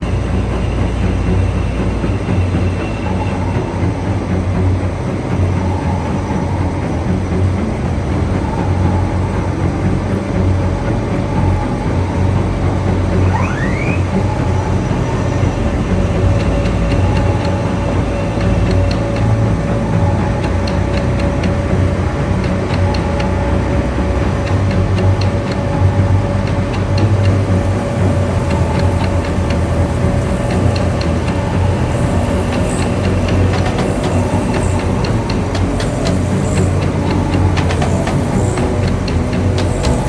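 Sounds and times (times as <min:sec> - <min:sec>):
milling machine rumble: 0:00.0 - 0:40.0
rising squeal: 0:00.0 - 0:40.0.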